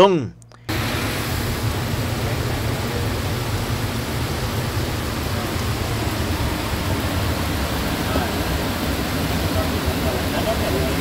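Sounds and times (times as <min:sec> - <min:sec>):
heavy rain and floodwater rushing: 0:00.7 - 0:11.0.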